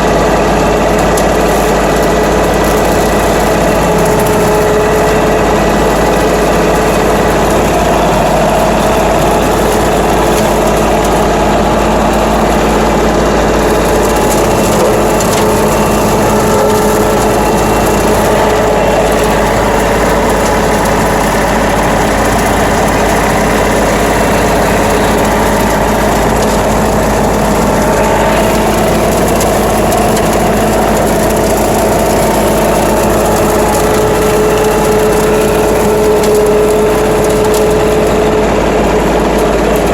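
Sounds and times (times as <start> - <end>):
rotary cutter mowing brush: 0.0 - 39.9
tractor engine running: 0.0 - 39.9.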